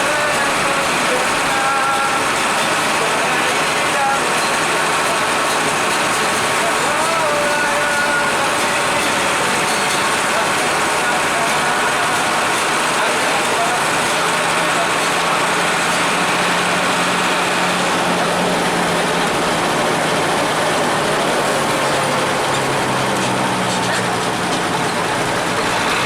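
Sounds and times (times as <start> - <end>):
bus engine droning: 0.0 - 26.0
lower engine note: 0.0 - 26.0
road noise: 0.0 - 26.0.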